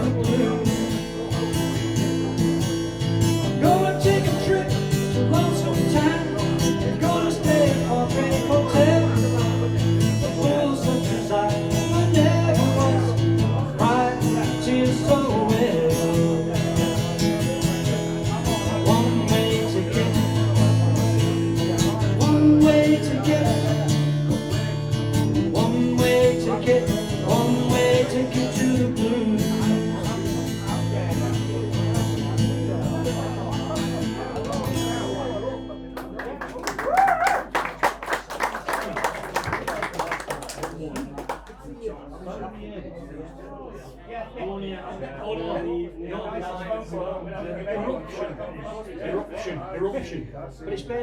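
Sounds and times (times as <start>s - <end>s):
guitar: 0.0s - 41.7s.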